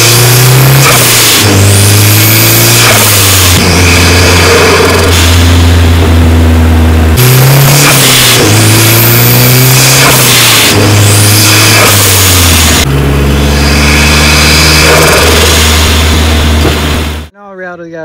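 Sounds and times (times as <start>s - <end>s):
car engine and exhaust revving: 0.0s - 17.3s.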